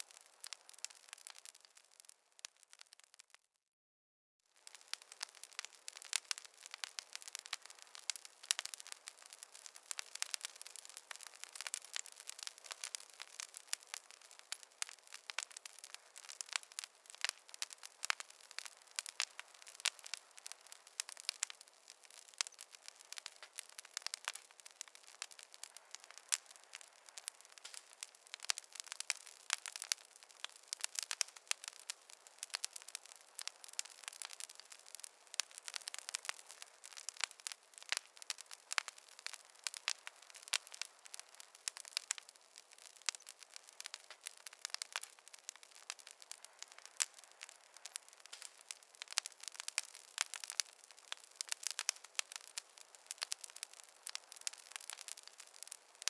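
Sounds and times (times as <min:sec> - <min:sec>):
campfire crackling: 0:00.0 - 0:03.4, 0:04.5 - 0:56.0.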